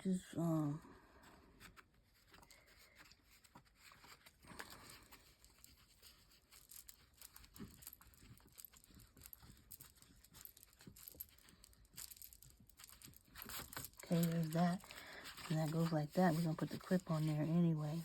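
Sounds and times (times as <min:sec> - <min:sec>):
small ticks and scrapes: 0:01.2 - 0:18.0.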